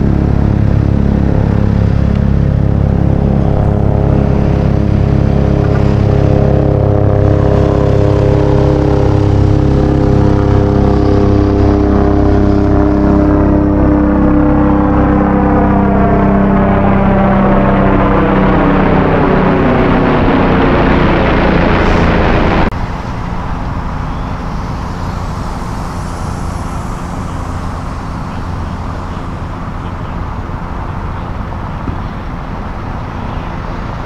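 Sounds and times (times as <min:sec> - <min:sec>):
helicopter flying overhead: 0:00.0 - 0:34.0
road traffic rumble: 0:00.0 - 0:34.0.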